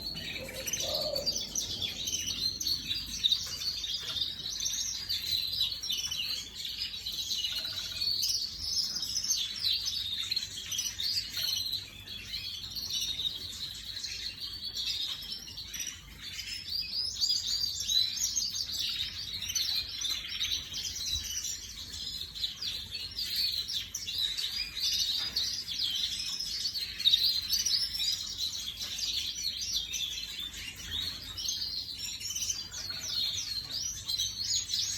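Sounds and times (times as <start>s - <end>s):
canary trills and chirps: 0.0s - 34.9s.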